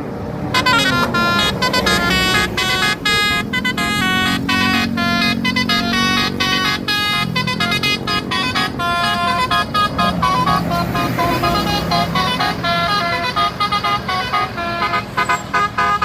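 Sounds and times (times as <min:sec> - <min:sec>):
bus engine hum: 0:00.0 - 0:16.0
multi-tone musical bus horn: 0:00.4 - 0:16.0.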